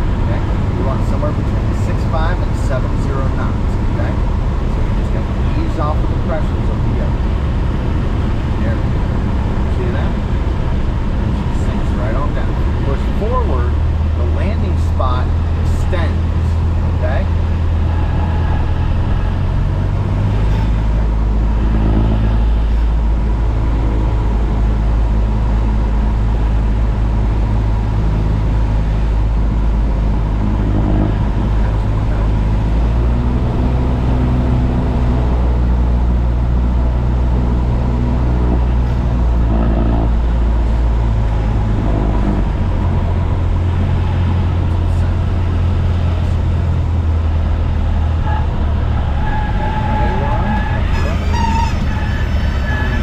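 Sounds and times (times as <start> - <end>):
light aircraft engine droning: 0.0 - 53.0.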